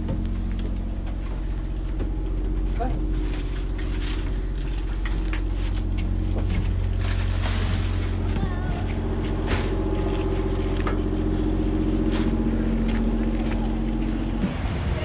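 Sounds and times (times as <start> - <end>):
footsteps on gravel: 0.0 - 14.4
bus engine idling: 0.0 - 15.0.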